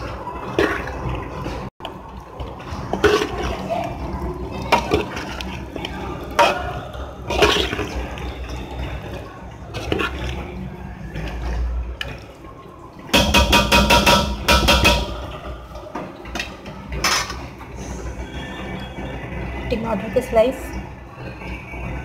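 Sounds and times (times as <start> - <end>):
wet squelching of mixing: 0.0 - 22.0.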